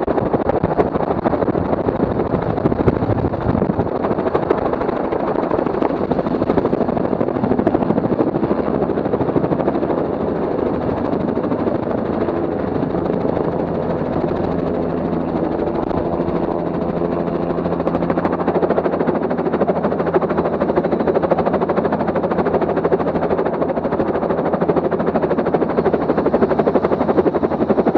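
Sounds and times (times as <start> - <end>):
drone propellers buzzing: 0.0 - 27.9.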